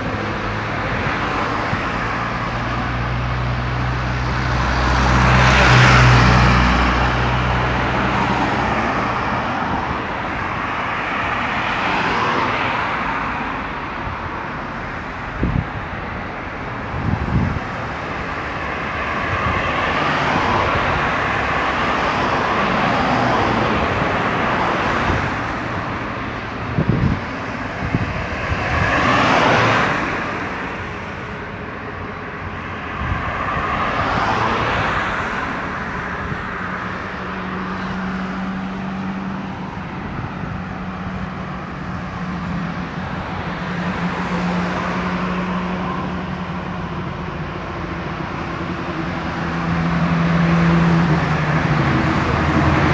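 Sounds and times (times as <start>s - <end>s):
cars passing on highway: 0.0s - 52.9s.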